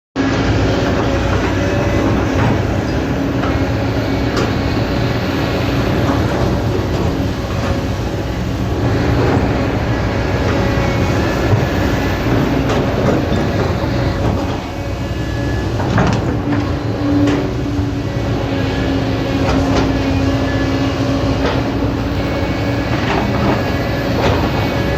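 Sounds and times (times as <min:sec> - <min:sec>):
excavator diesel engine whining: 0:00.2 - 0:24.9.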